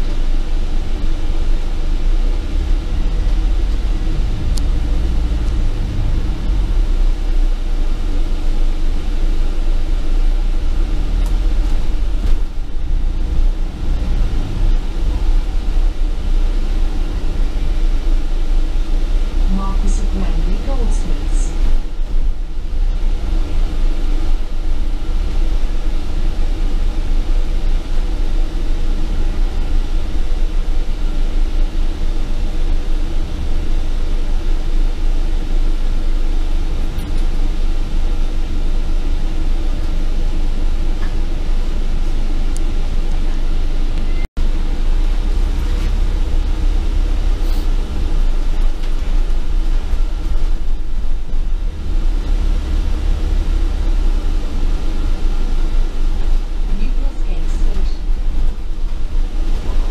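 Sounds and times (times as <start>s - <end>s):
bus low rumble: 0.0s - 59.9s.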